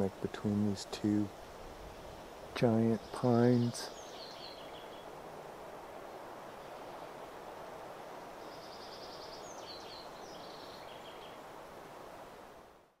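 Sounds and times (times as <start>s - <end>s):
wind through trees: 0.0s - 13.0s.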